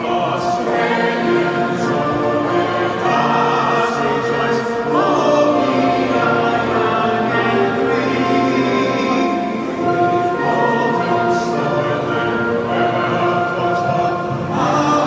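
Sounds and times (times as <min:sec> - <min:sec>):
choir singing held notes: 0:00.0 - 0:15.0.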